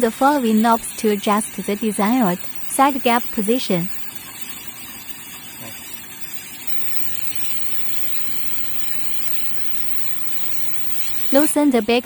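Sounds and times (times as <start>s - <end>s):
steady even hiss: 0.0s - 12.0s.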